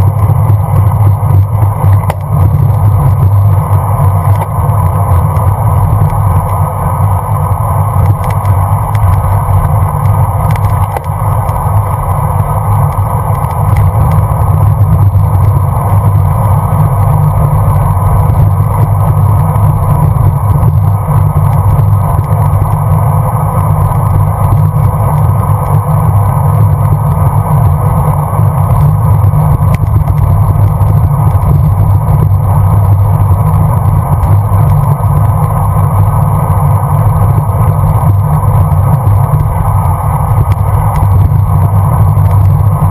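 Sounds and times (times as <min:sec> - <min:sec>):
road rumble: 0:00.0 - 0:42.9.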